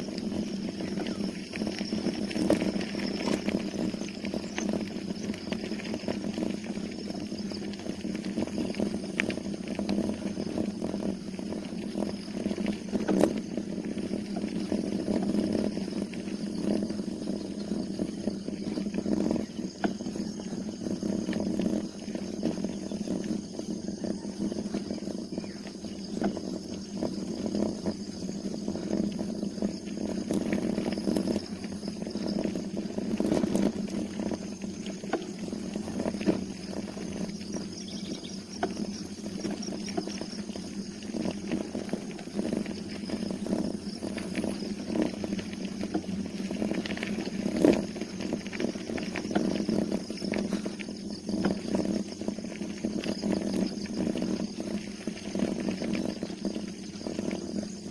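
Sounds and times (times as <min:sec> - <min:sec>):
bicycle riding on road: 0:00.0 - 0:57.9
wind on microphone: 0:00.0 - 0:57.9.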